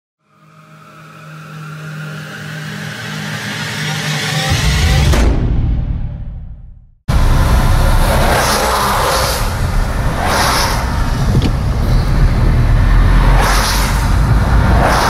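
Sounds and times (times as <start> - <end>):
car road and engine noise: 0.3 - 4.5, 7.1 - 15.0.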